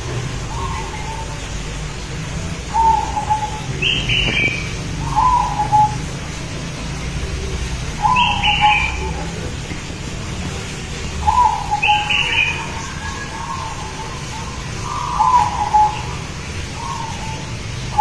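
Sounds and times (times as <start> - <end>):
dove cooing: 0.0 - 9.7, 10.6 - 18.0.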